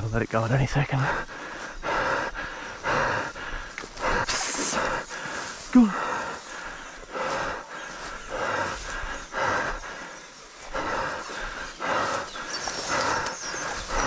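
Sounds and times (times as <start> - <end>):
person breathing hard: 0.9 - 14.0.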